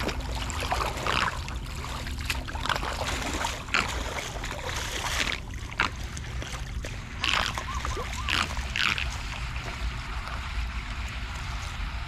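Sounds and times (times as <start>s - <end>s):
floodwater flowing: 0.0s - 12.0s
water splashes: 0.0s - 12.0s.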